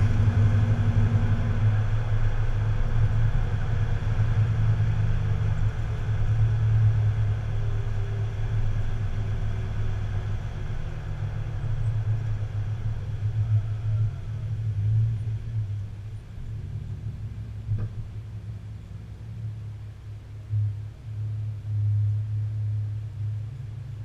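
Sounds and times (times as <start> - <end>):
vehicle engine low rumble: 0.0 - 24.0.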